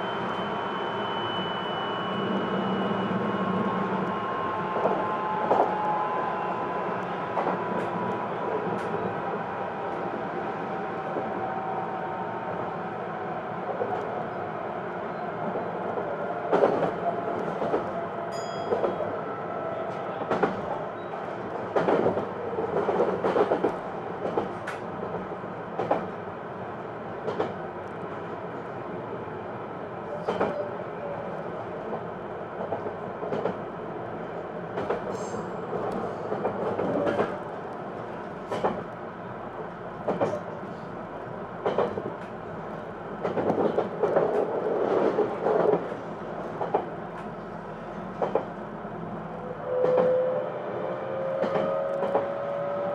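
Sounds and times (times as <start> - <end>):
train wheels rumbling on rail: 2.2 - 28.9, 29.9 - 52.9.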